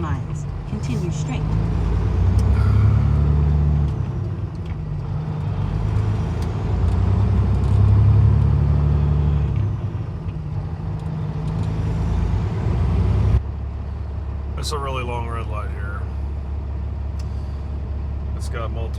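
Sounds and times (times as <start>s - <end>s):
truck diesel engine droning: 0.0s - 18.9s.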